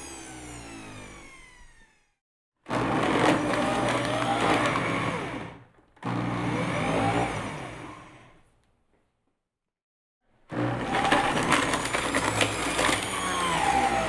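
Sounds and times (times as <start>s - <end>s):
electric blender whirring: 0.0s - 8.4s, 10.5s - 14.0s.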